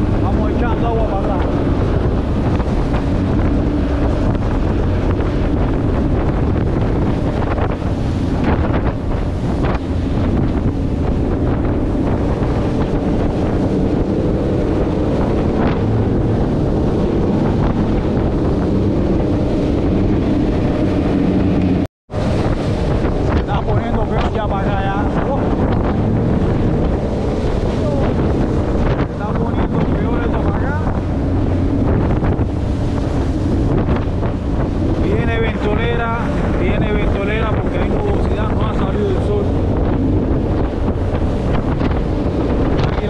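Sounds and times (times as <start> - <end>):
outboard engines running: 0.0 - 43.0
water rushing past hull: 0.0 - 43.0
wind noise on microphone: 0.0 - 43.0.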